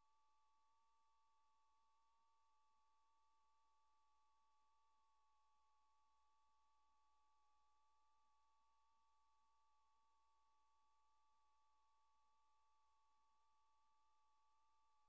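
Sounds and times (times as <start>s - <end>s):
faint two-note electronic whine: 0.0s - 15.0s.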